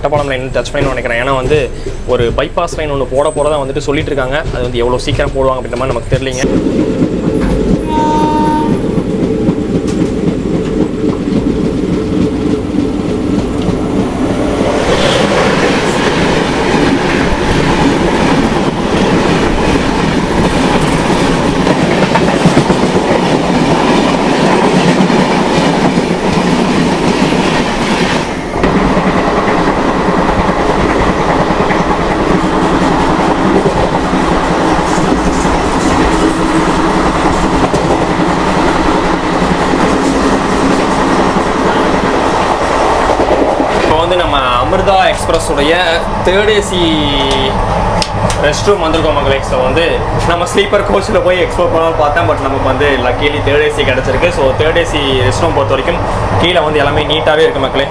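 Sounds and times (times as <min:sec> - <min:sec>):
train wheels clattering on rails: 0:00.0 - 0:57.9.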